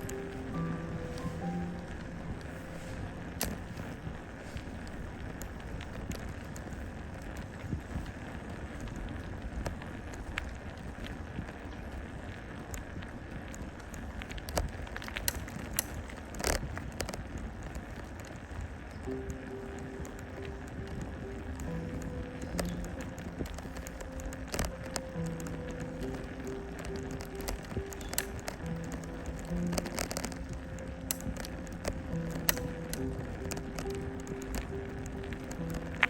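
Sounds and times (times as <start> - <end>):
bicycle clicks and rattles: 0.0 - 36.0
wind and road noise: 0.0 - 36.0.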